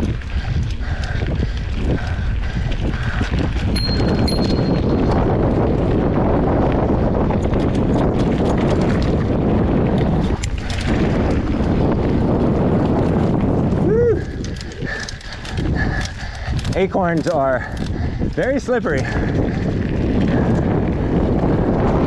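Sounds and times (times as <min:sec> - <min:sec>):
bike rattling and clicking: 0:00.0 - 0:22.0
bike tyres rumbling over dirt: 0:00.0 - 0:22.0
wind buffeting microphone: 0:00.0 - 0:22.0.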